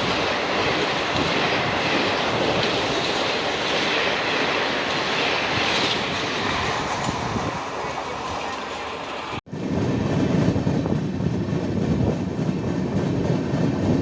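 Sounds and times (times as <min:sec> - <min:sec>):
train rushing past: 0:00.0 - 0:14.0.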